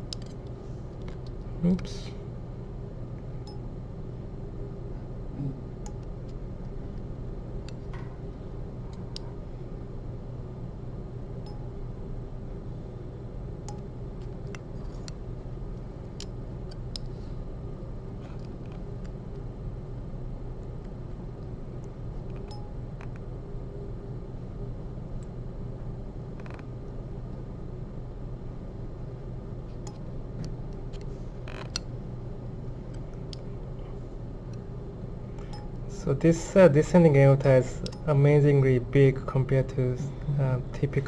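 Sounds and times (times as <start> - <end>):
low room hum: 0.0 - 41.0.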